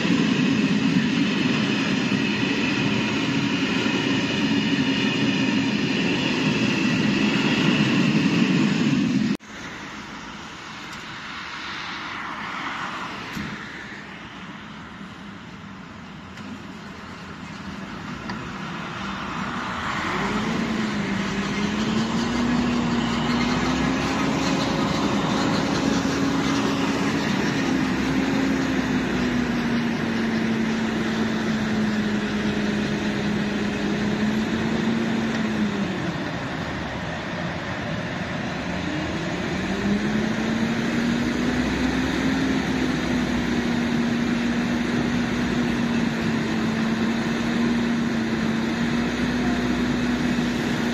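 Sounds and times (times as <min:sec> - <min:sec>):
freight train rumbling: 0:00.0 - 0:50.9.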